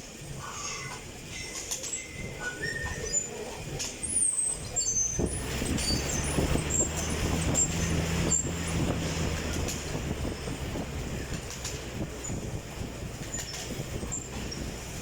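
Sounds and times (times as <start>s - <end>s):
exercise bike whirring: 0.0s - 15.0s.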